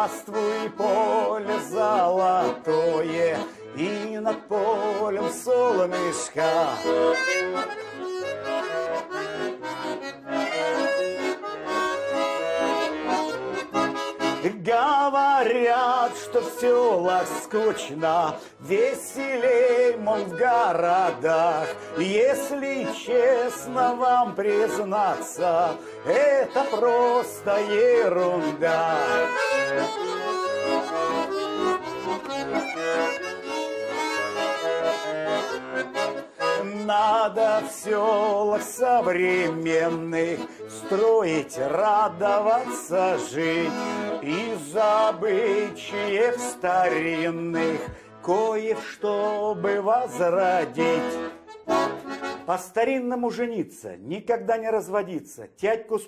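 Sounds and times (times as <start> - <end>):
person singing: 0.0 - 54.0
accordion playing: 0.0 - 55.0.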